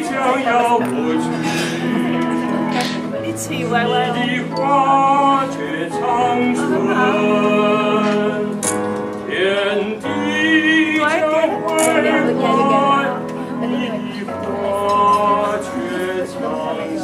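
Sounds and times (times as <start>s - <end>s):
man singing with vibrato: 0.0s - 17.0s.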